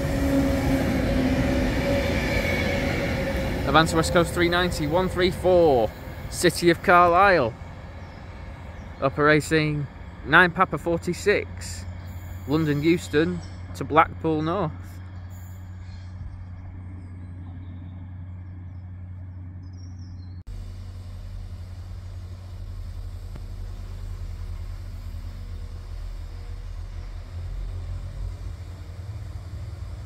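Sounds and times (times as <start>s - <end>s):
electric train humming: 0.0s - 30.0s
rough train rumble: 0.0s - 30.0s.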